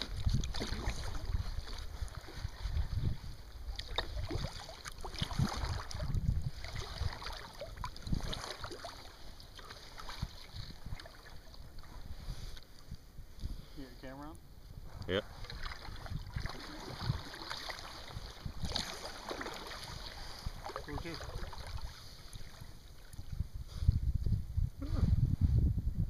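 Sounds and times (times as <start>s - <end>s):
water splashing against a hull: 0.0s - 12.9s, 15.1s - 23.5s
wind buffeting microphone: 0.0s - 26.0s.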